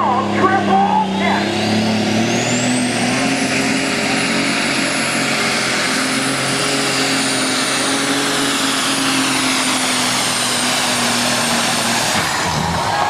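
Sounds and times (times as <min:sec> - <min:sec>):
diesel tractor engine: 0:00.0 - 0:13.0
turbocharger whistle: 0:00.0 - 0:13.0.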